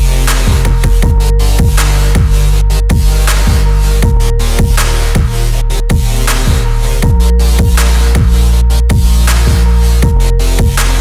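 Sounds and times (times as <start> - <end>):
deep kick drums: 0.0 - 11.0
sustained electronic bass: 0.0 - 11.0.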